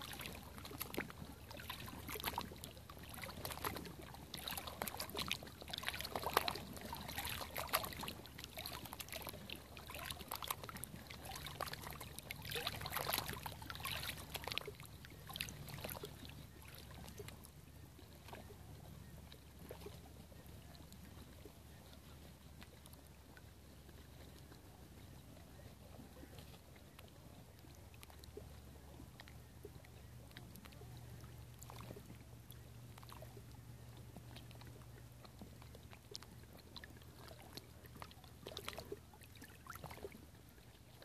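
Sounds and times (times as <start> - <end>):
ripples lapping on rocks: 0.0 - 41.0.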